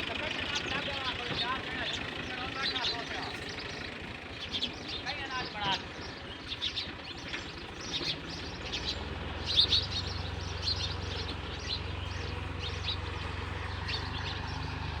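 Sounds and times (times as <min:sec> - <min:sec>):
small birds chirping: 0:00.0 - 0:15.0
tractor engine rumble: 0:00.0 - 0:15.0.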